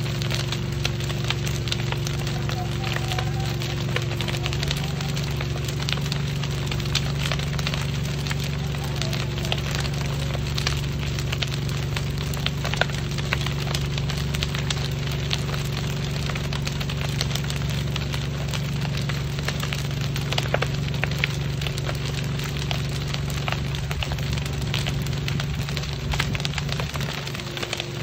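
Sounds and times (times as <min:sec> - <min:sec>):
fire crackling and popping: 0:00.0 - 0:28.0
low engine drone: 0:00.0 - 0:28.0.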